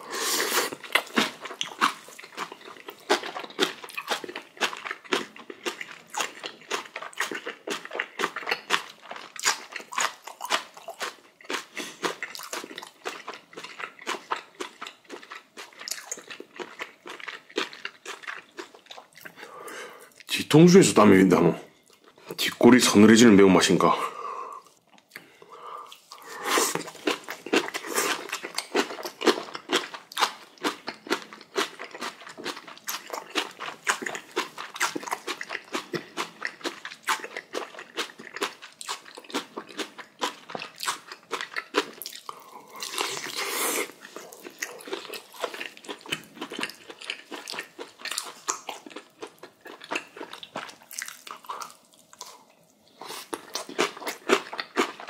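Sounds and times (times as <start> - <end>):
person chewing crunchy food: 0.0 - 20.4, 24.5 - 55.0.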